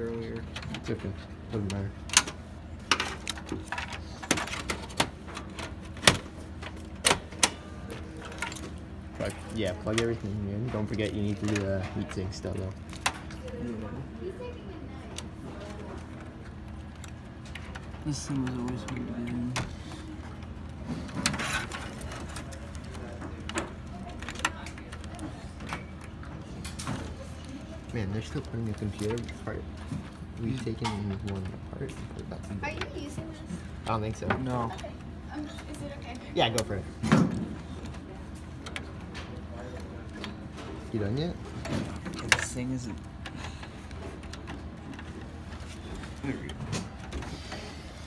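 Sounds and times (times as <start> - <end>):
handling noise: 0.0 - 48.0.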